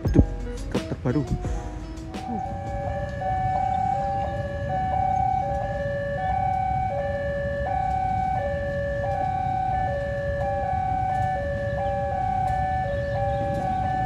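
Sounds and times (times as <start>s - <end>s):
low steady rumble: 0.0s - 14.0s
two-tone crossing alarm: 1.8s - 14.0s.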